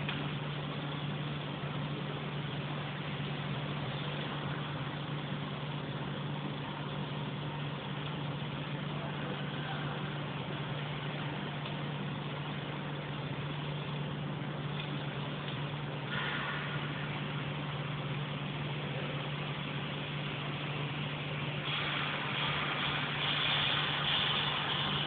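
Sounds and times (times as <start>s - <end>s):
welding machine humming and hissing: 0.0s - 25.0s.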